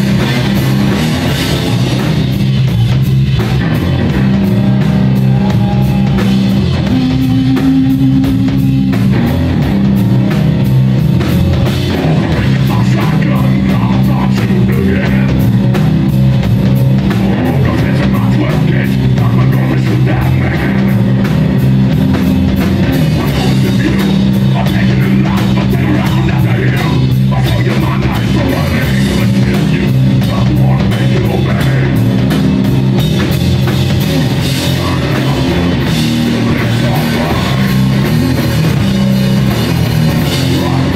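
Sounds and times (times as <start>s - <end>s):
bass guitar: 0.0s - 40.9s
drum kit beat: 0.0s - 40.9s
electric guitar: 0.0s - 40.9s.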